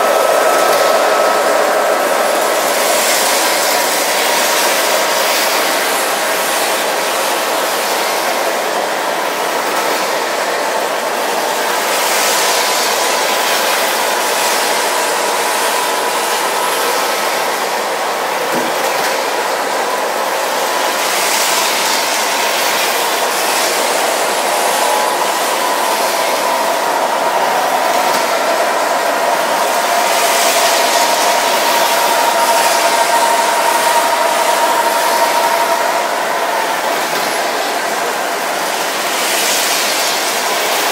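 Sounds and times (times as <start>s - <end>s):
model trains running on track: 0.0s - 40.9s.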